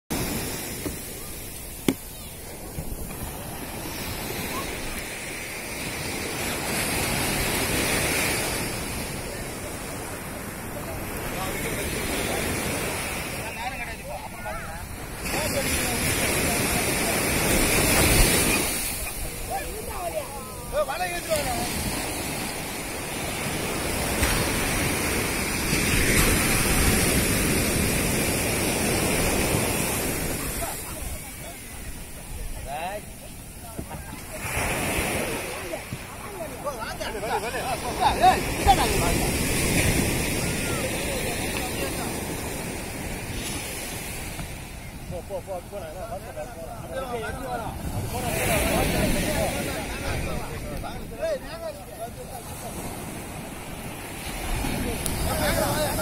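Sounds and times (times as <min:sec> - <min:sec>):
surf washing onto beach: 0:00.1 - 0:56.0.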